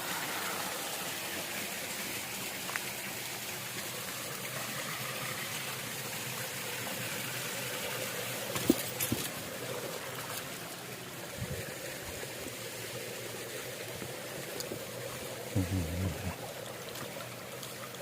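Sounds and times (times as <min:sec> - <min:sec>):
stream running over rocks: 0:00.0 - 0:18.0.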